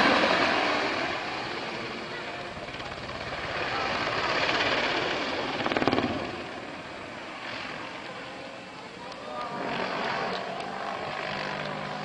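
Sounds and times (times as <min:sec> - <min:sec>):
helicopter flying past: 0:00.0 - 0:12.0.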